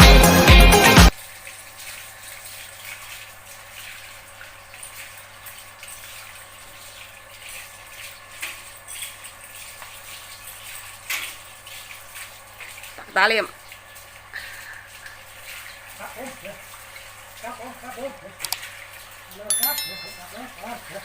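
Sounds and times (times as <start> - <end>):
water running and splashing: 1.2 - 20.9.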